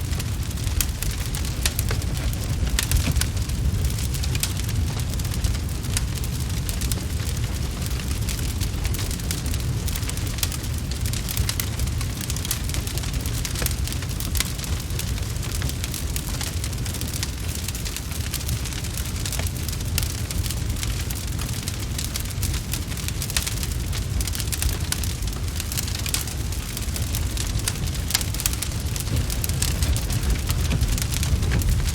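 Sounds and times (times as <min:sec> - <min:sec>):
steady low rumble: 0:00.0 - 0:31.9
wood fire crackling and popping: 0:00.0 - 0:31.9.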